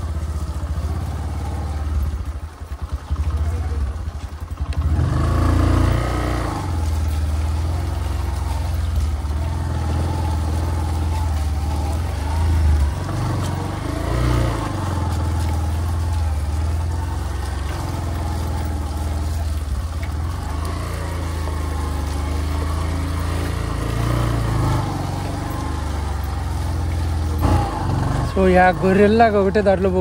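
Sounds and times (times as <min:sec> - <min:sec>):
motorcycle engine revving under load: 0:00.0 - 0:30.0.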